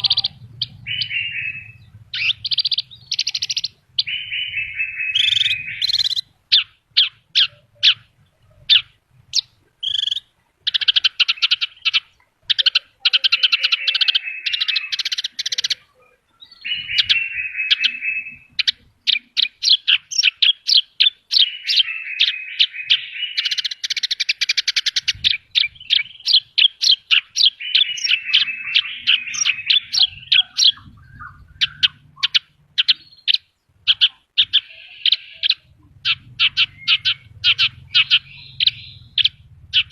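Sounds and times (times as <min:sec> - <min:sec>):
bush lark singing: 0:00.0 - 0:39.9.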